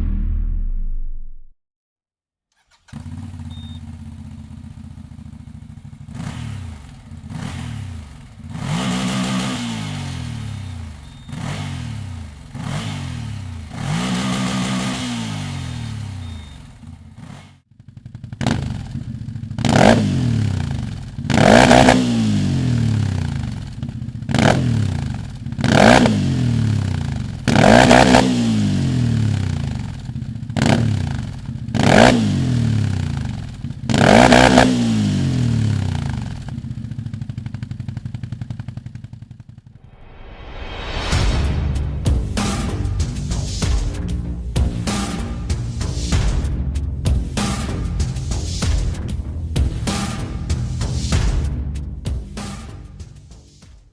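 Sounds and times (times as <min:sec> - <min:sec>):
atv engine idling and revving: 0:02.6 - 0:39.8, 0:42.0 - 0:53.7.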